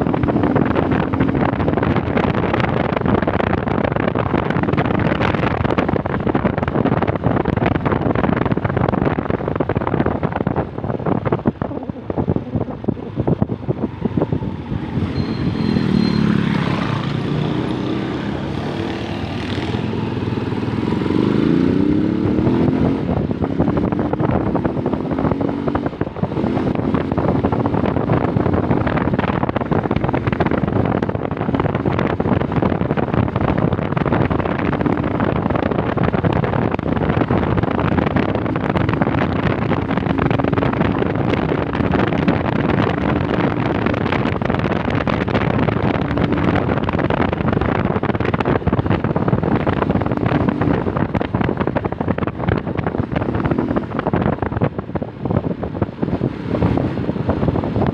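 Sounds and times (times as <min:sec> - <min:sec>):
motorcycle engine hum: 0:00.0 - 0:57.9
wind rushing on microphone: 0:00.0 - 0:57.9.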